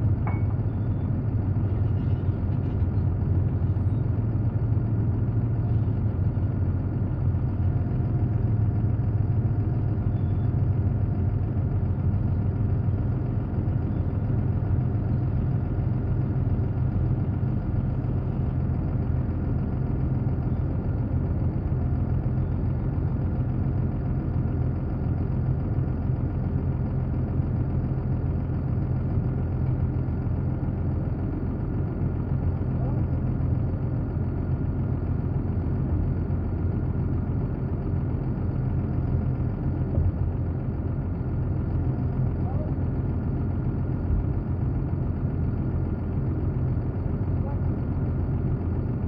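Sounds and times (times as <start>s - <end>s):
heavy engine idling: 0.0s - 49.0s.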